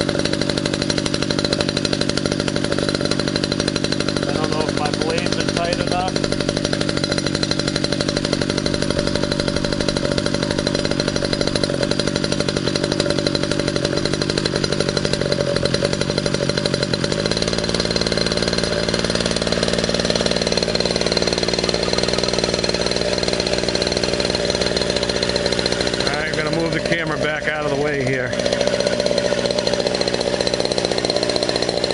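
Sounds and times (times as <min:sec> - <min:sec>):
two-stroke engine running: 0:00.0 - 0:31.9.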